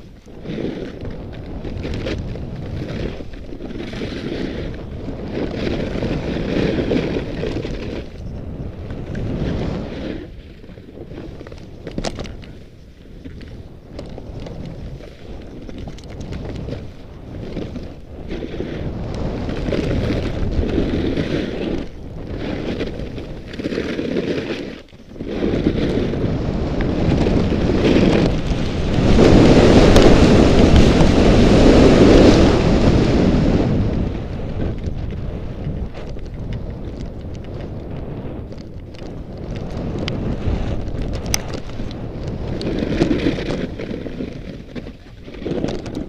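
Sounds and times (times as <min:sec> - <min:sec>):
skis sliding over snow: 0:00.0 - 0:46.0
wind rushing over microphone: 0:00.0 - 0:46.0.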